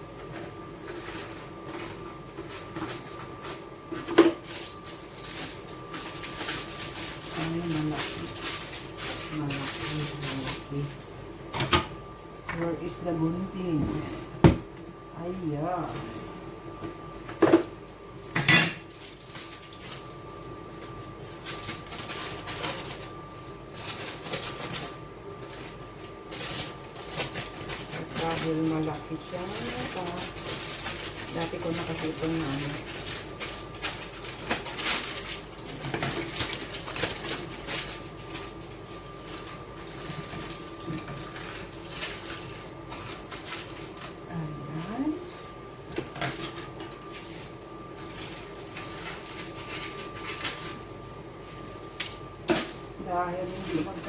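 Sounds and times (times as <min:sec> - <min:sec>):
wrapping material crinkling: 0:00.2 - 0:11.0, 0:18.8 - 0:54.0.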